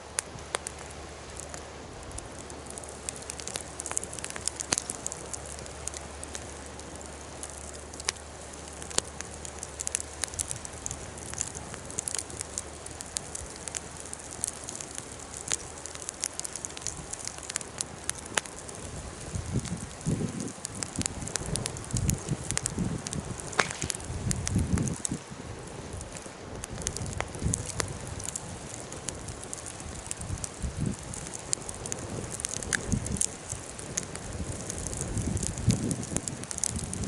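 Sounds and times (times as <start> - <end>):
campfire crackling and popping: 0.0 - 37.0
fire hiss: 0.0 - 37.0.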